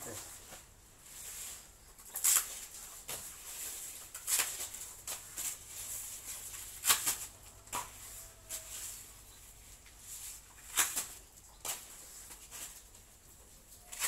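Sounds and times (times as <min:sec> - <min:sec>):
rustle of long leaves: 0:00.0 - 0:14.0.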